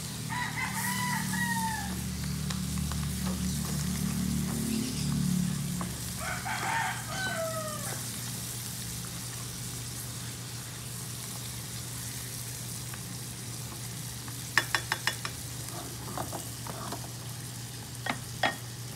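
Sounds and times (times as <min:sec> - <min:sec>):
food sizzling in a wok: 0:00.0 - 0:18.9.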